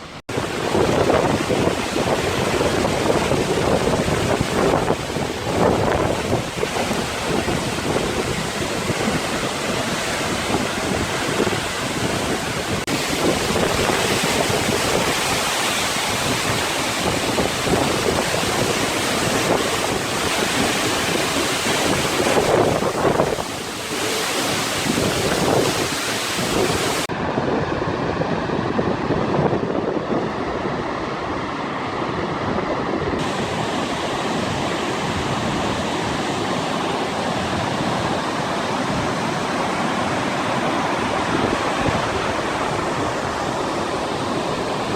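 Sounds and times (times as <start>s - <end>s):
water rushing: 0.0s - 27.4s, 30.6s - 44.9s
wind buffeting microphone: 0.0s - 44.9s.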